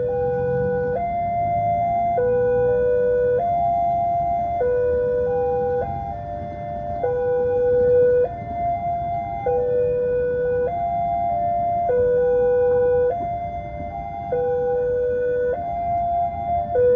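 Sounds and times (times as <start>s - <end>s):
level crossing warning alarm: 0.0s - 16.9s.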